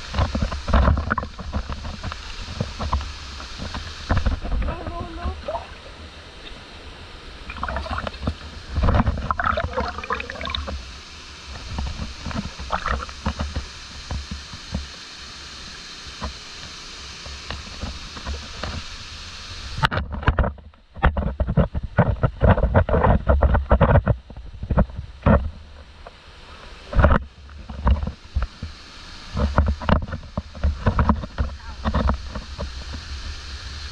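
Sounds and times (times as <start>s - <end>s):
stream water rushing: 0.0s - 20.2s, 24.4s - 33.9s.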